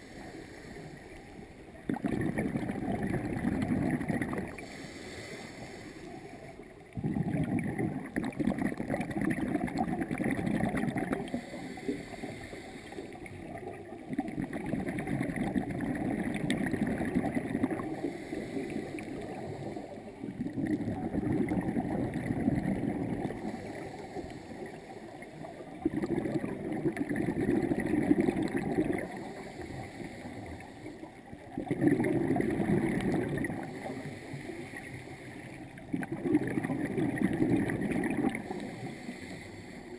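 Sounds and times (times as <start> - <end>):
diver inhaling underwater: 0.0 - 7.9, 8.6 - 13.8, 14.4 - 31.3, 32.1 - 39.9
regulator bubbles gurgling underwater: 0.0 - 39.9.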